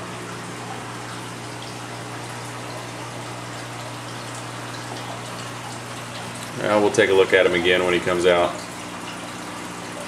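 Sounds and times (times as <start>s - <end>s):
aquarium pumps humming: 0.0s - 10.0s
aquarium water bubbling: 0.0s - 10.0s.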